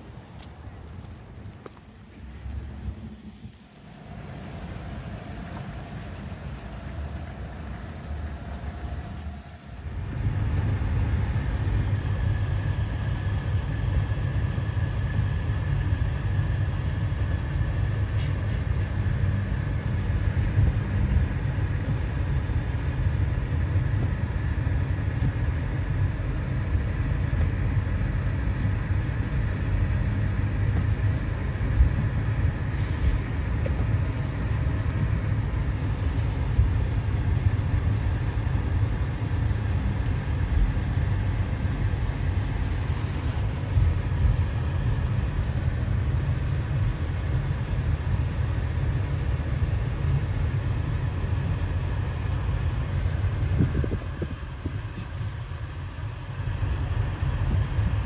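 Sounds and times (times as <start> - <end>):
car cabin rumble on snowy road: 0.0 - 58.0.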